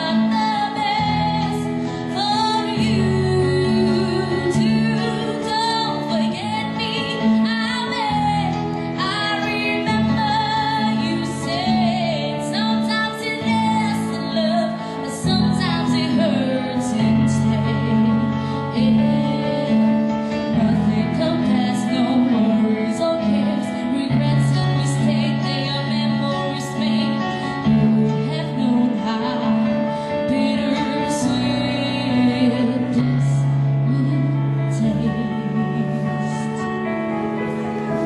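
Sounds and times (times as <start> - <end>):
woman singing pop ballad: 0.0 - 37.0
keyboard chords: 0.0 - 38.0.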